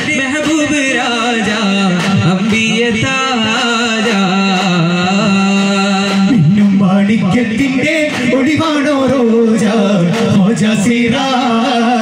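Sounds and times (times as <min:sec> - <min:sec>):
frame drums struck by hand: 0:00.0 - 0:12.0
men singing: 0:00.0 - 0:12.0.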